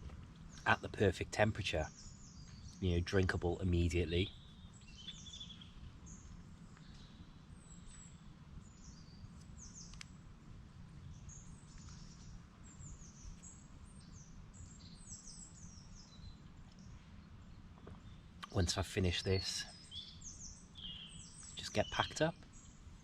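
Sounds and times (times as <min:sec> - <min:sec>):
wild birds chirping: 0:00.0 - 0:23.0.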